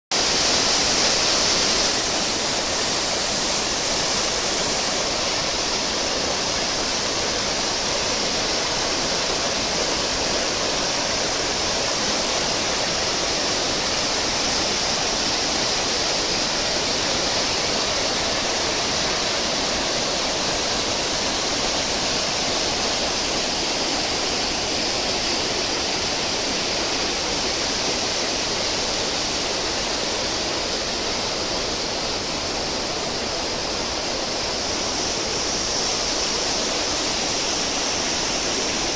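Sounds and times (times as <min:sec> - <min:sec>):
waterfall crashing over rocks: 0:00.1 - 0:38.9.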